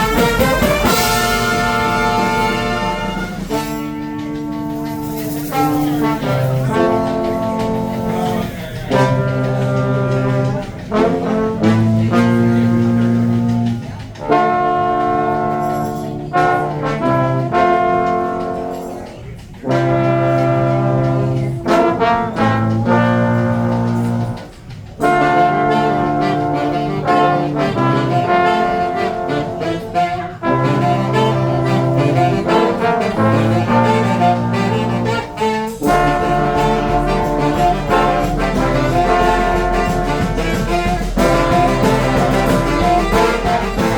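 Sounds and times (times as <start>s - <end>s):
brass band playing: 0.0s - 43.9s.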